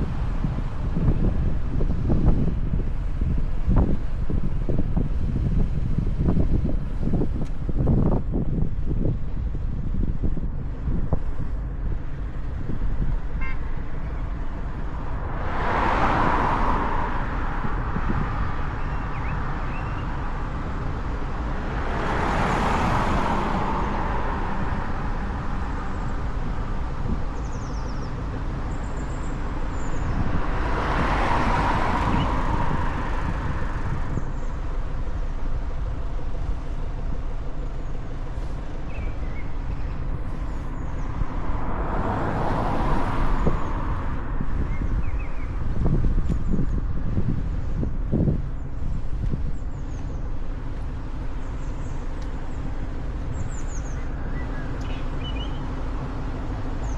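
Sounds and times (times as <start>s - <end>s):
motorcycle wind and road rumble: 0.0s - 56.9s
vehicles passing: 0.0s - 56.9s.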